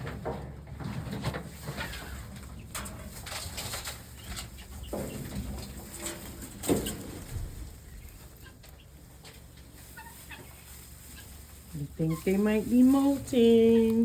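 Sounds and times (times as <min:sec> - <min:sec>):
chickens clucking: 0:00.0 - 0:14.0
rustling and scuffing: 0:00.8 - 0:14.0.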